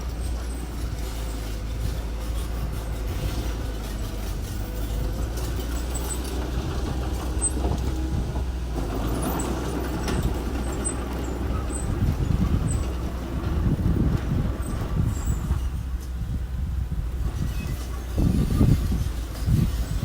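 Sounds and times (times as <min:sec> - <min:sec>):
earthmoving machinery engine rumbling: 0:00.0 - 0:20.0.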